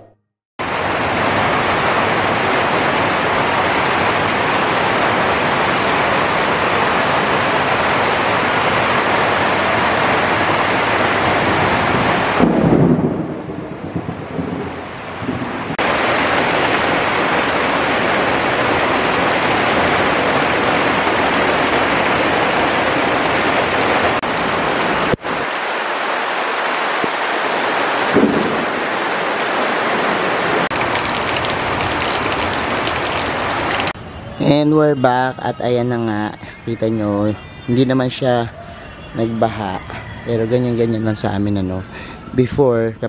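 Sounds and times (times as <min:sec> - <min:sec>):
heavy rain pouring: 0:00.6 - 0:42.5.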